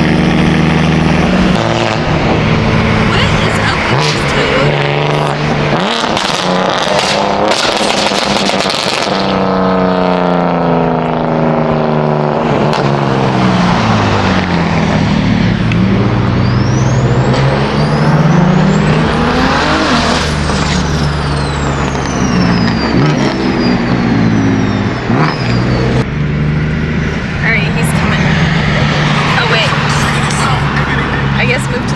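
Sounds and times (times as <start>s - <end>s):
car engine accelerating: 0.0s - 31.9s.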